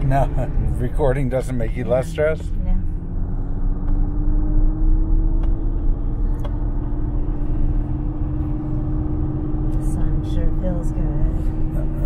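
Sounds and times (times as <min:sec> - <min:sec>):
car engine running: 0:00.0 - 0:12.0
low road rumble: 0:00.0 - 0:12.0.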